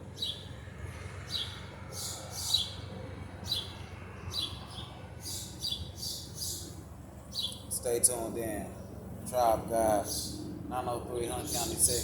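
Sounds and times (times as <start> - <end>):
small birds chirping: 0.1 - 0.6, 1.2 - 10.5, 11.2 - 12.0.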